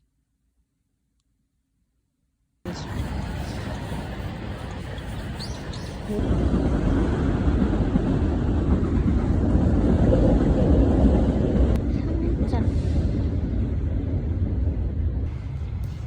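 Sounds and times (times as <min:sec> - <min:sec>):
moving vehicle rumble: 0:02.7 - 0:16.0.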